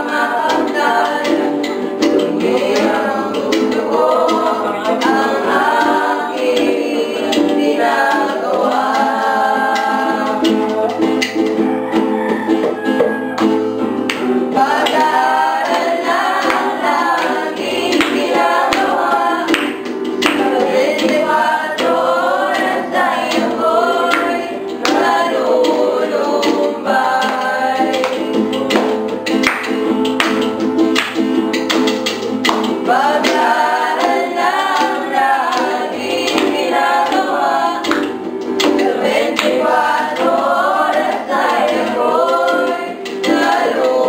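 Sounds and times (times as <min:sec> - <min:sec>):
group singing together: 0:00.0 - 0:44.0
guitar accompaniment: 0:00.0 - 0:44.0.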